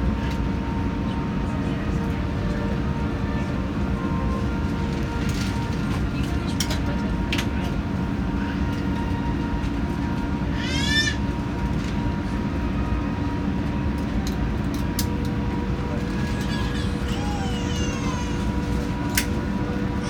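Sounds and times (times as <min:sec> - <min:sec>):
aircraft cabin rumble and hiss: 0:00.0 - 0:20.0.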